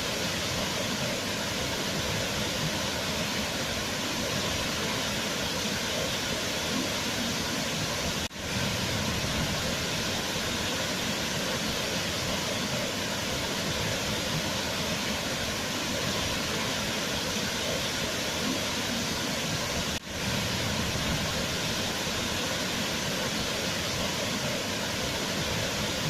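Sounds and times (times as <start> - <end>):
waterfall rushing water: 0.0 - 26.0.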